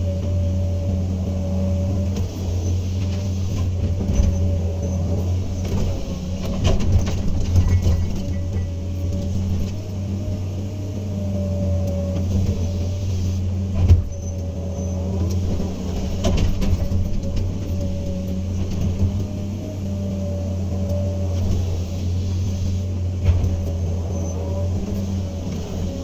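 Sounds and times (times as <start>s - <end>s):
excavator diesel engine running: 0.0s - 26.0s
faint hydraulic whine: 0.0s - 26.0s.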